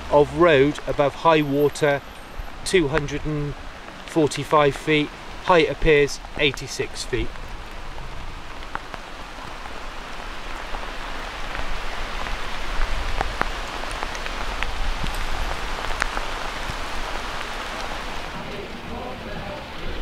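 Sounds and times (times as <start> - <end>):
raindrops ticking close by: 0.0 - 20.0
steady rain hiss: 0.0 - 20.0.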